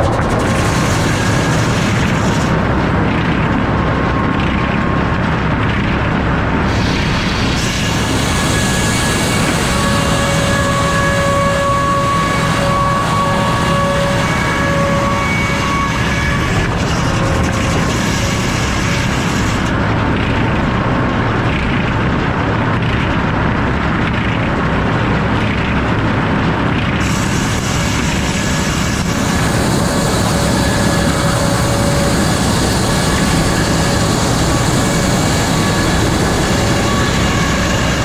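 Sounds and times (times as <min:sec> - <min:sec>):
sawmill saw running with whine: 0:00.0 - 0:38.0.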